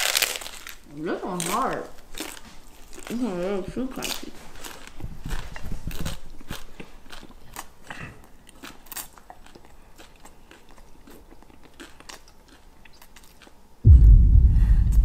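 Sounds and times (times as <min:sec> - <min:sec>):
person chewing crunchy taco shell: 0:00.0 - 0:13.8.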